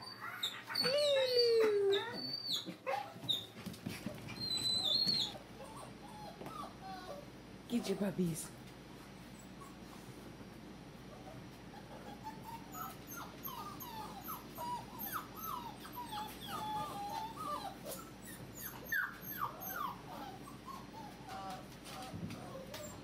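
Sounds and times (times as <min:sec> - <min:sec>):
puppies whining and squealing: 0:00.0 - 0:07.3, 0:09.2 - 0:10.1, 0:11.1 - 0:23.0.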